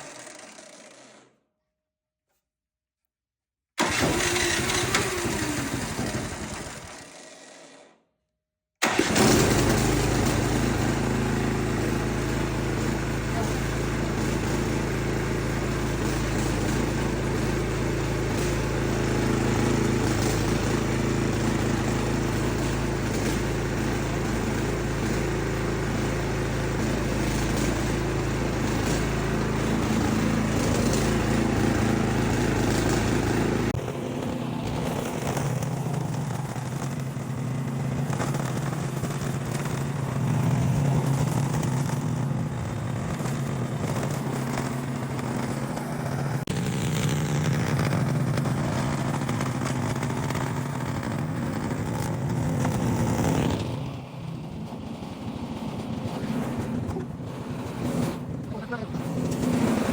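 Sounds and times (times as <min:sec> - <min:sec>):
small gasoline engine running: 0:00.0 - 0:01.4, 0:03.8 - 0:08.0, 0:08.8 - 0:59.9.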